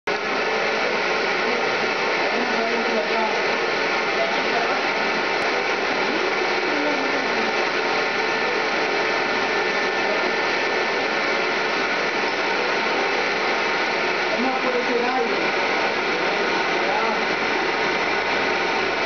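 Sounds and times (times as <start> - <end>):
gas burner blower and flame rushing: 0.1 - 19.0.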